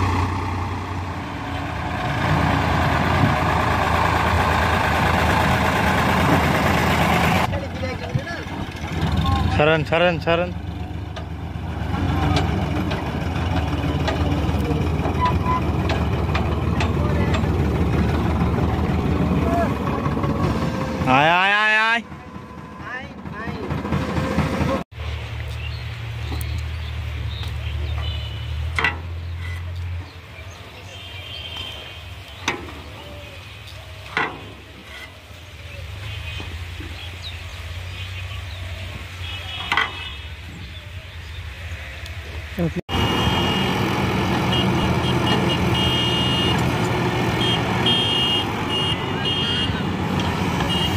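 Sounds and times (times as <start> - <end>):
tractor diesel engine running: 0.0 - 25.2, 33.9 - 50.9.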